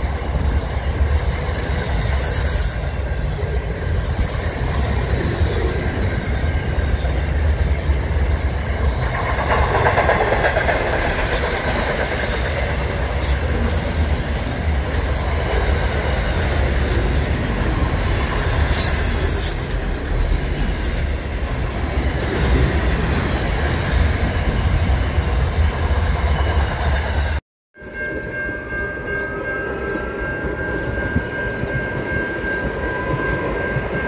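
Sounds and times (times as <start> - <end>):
train wheels rumbling on rail: 0.0 - 28.4, 29.4 - 34.0.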